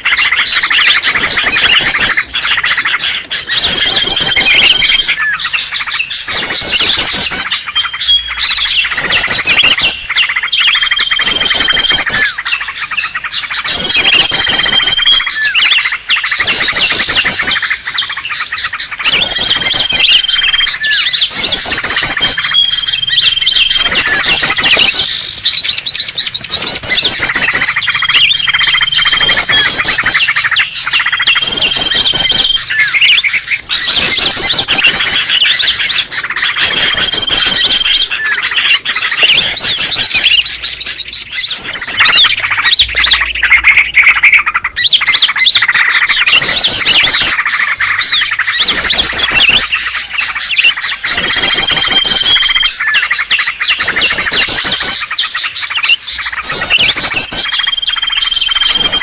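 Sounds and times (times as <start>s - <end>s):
birds chattering in rapid trills: 0.0s - 59.0s.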